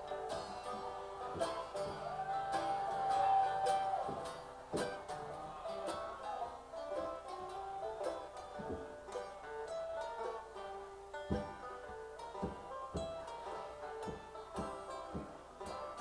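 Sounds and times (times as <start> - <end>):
plucked string instruments: 0.0 - 16.0.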